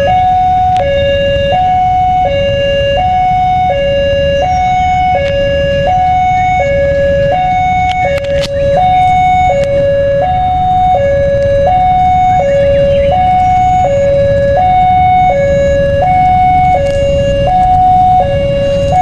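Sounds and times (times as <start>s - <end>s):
two-tone level crossing alarm: 0.0s - 19.0s.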